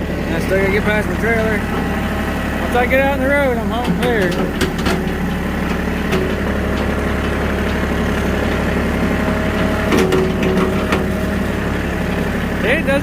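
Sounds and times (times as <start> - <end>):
vehicle engine running slowly: 0.0 - 13.0.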